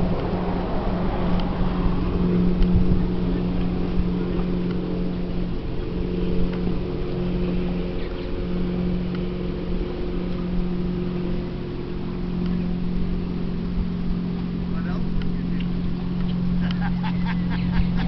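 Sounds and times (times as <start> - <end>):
ship engines droning: 0.0 - 18.0.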